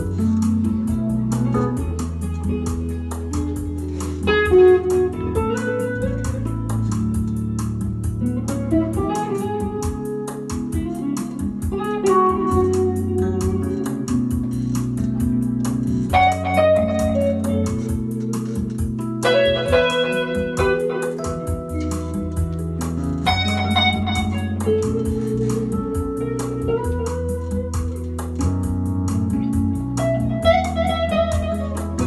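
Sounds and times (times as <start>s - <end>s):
bass: 0.0s - 32.0s
electric guitar melody: 0.0s - 32.0s
keyboard: 0.0s - 32.0s
steady beat: 0.0s - 32.0s.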